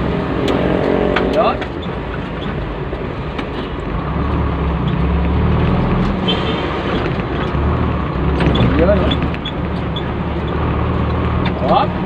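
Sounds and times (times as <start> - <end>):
diesel engine rumble: 0.0 - 12.0
road noise: 0.0 - 12.0.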